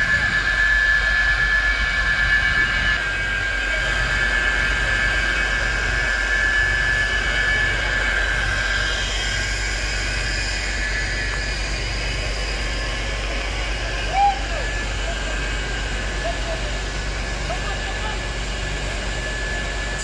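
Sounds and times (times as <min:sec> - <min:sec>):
thin high whine: 0:00.0 - 0:20.0
truck engine droning: 0:00.0 - 0:20.0.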